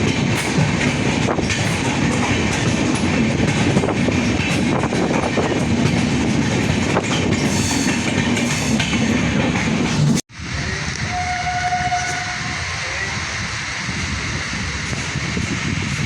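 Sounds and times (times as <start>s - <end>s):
train rumbling on rails: 0.0s - 16.0s
wheels clicking on track: 0.0s - 16.0s.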